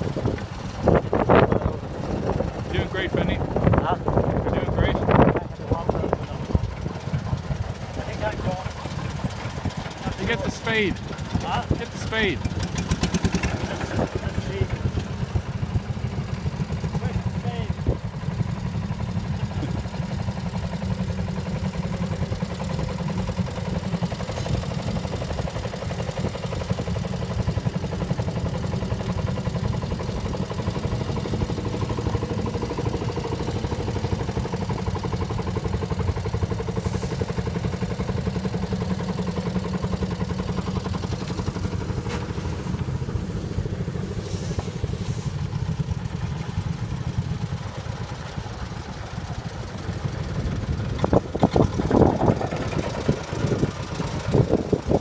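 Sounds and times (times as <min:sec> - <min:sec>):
walking tractor engine running: 0:00.0 - 0:55.0.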